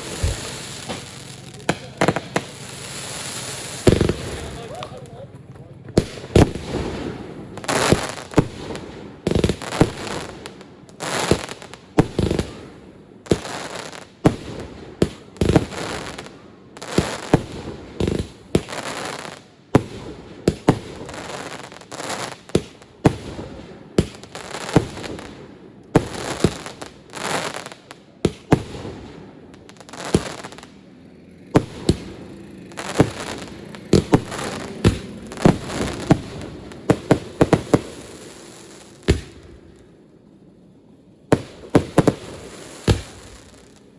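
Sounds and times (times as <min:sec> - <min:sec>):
fireworks bangs: 0:00.0 - 0:43.9
fireworks crackling and hiss: 0:00.0 - 0:43.9.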